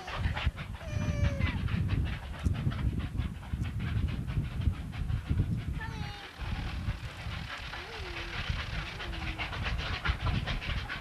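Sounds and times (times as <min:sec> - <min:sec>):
steam train chuffing past: 0:00.0 - 0:11.0.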